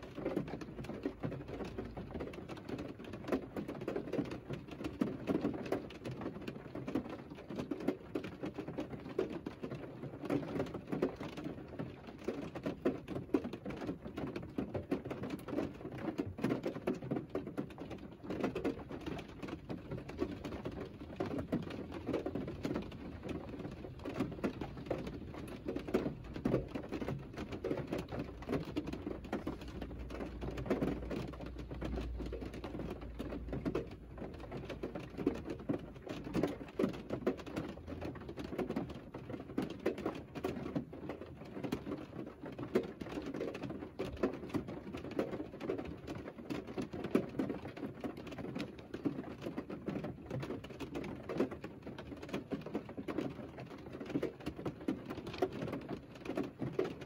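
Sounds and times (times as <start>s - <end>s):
rain drumming on car roof: 0.0s - 57.0s.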